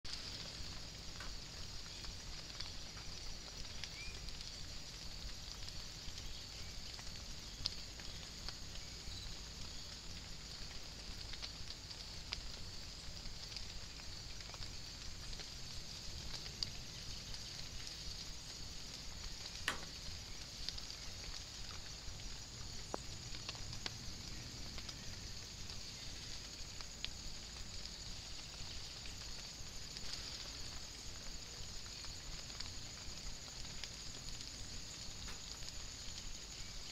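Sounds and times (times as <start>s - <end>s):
light rain hissing: 0.0s - 36.9s
raindrops ticking: 0.1s - 36.9s.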